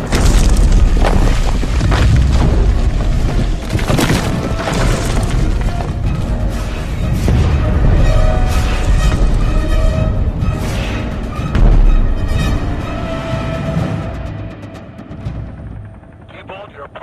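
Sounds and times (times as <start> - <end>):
deep rumble: 0.0 - 16.3
orchestral score: 2.7 - 17.0.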